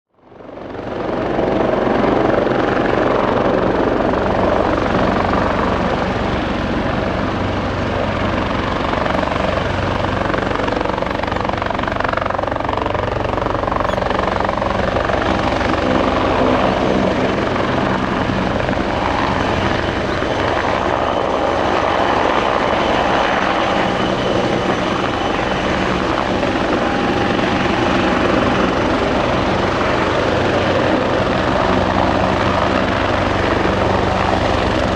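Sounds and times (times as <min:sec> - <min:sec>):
helicopter turbine and rotor: 0:00.2 - 0:34.9.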